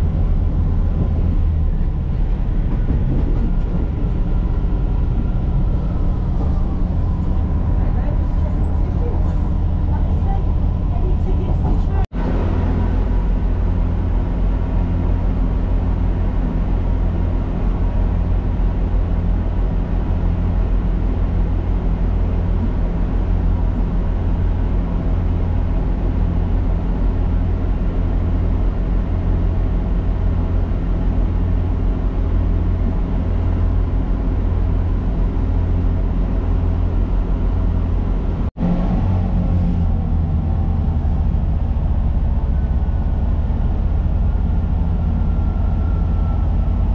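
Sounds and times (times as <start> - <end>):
train diesel engine drone: 0.0 - 46.9
train wheels on track: 0.0 - 46.9.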